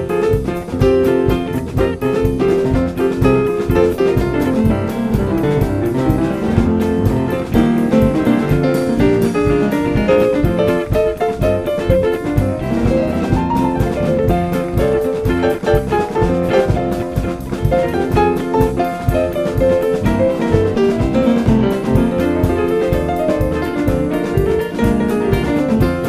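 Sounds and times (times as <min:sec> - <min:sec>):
drum kit beat: 0:00.0 - 0:26.0
jazz music: 0:00.0 - 0:26.0.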